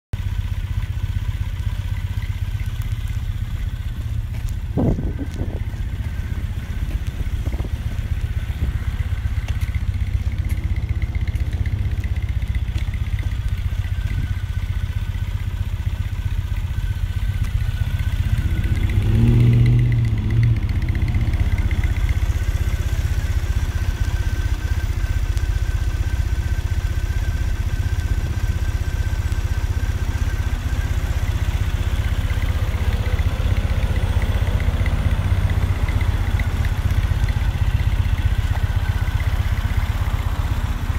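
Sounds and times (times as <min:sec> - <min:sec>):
motorcycle engine idling: 0:00.2 - 0:40.9.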